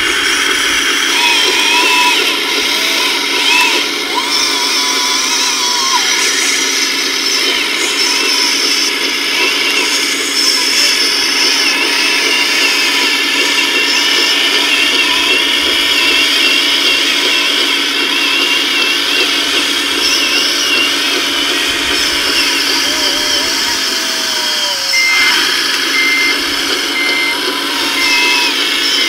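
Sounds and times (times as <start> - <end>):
small electric motors whining: 0.0 - 29.0.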